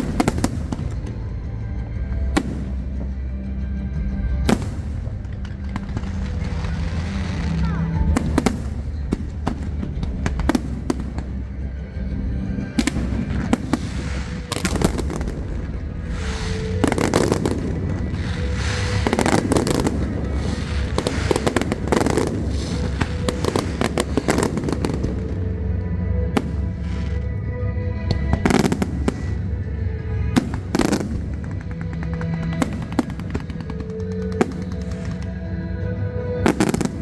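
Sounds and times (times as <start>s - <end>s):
fireworks bangs and crackles: 0.0s - 37.0s
music over loudspeakers: 0.0s - 37.0s.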